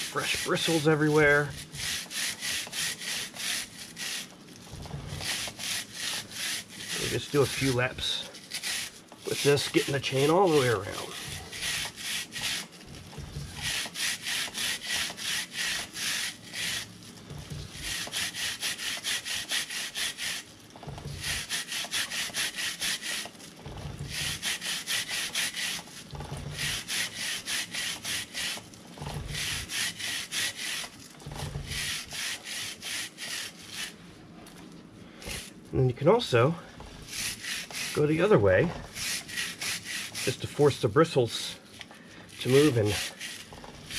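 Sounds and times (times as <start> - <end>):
stiff brush scrubbing a chain: 0.0 - 34.1, 35.1 - 43.9.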